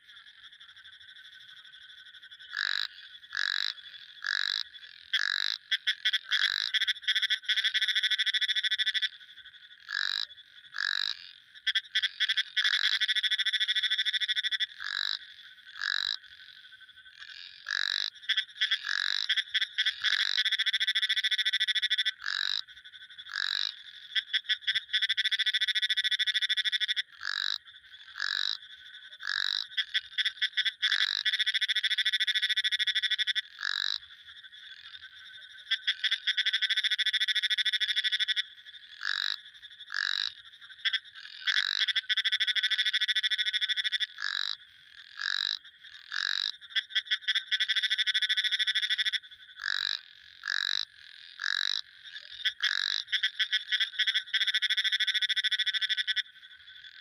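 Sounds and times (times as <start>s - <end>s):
frogs trilling: 0.0s - 57.0s.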